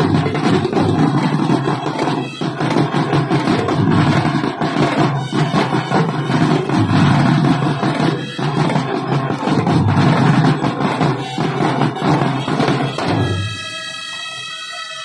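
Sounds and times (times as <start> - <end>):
marching drums in unison: 0.0 - 15.0.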